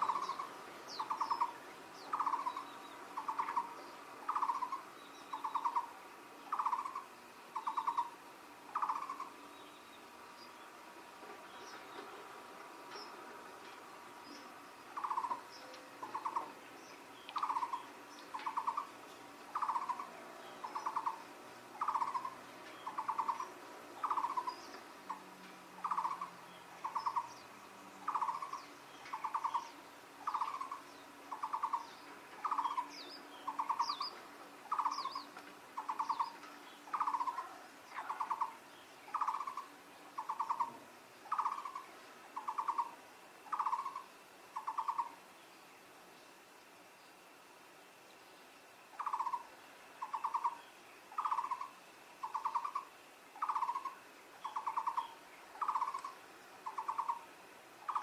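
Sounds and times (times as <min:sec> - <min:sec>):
bird pulsed trill call: 0:00.0 - 0:10.6, 0:14.2 - 0:45.2, 0:48.9 - 0:58.0
small birds chirping: 0:00.0 - 0:47.4, 0:48.1 - 0:58.0.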